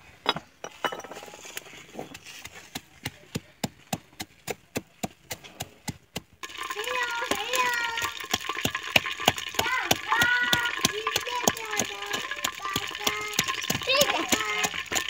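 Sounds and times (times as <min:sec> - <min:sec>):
pestle pounding in clay mortar: 0:02.1 - 0:15.0.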